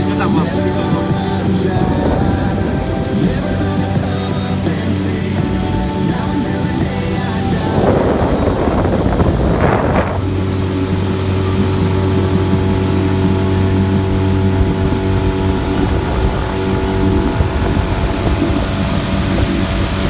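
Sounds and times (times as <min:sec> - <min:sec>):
motorboat engine running: 0:00.0 - 0:20.0
rush of water or wind: 0:00.0 - 0:20.0.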